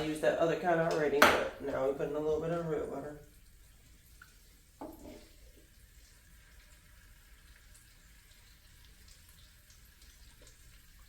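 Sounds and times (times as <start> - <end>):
butter sizzling in a pan: 0.0 - 11.0.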